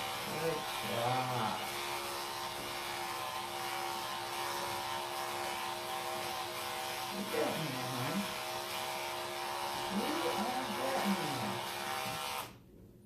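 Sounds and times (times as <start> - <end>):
electric clippers buzzing: 0.0 - 12.6.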